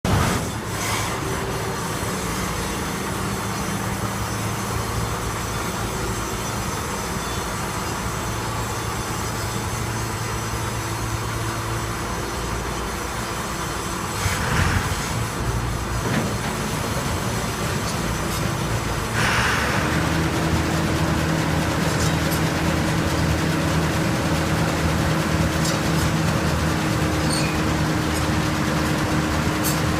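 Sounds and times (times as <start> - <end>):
combine harvester engine running: 0.1 - 29.9.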